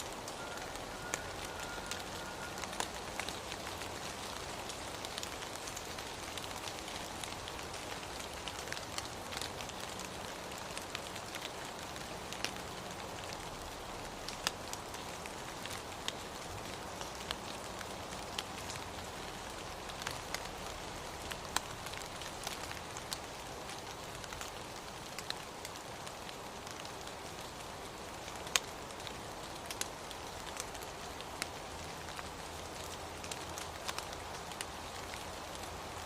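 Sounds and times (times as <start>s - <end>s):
raindrops ticking close by: 0.0s - 36.0s
steady rain hiss: 0.0s - 36.0s.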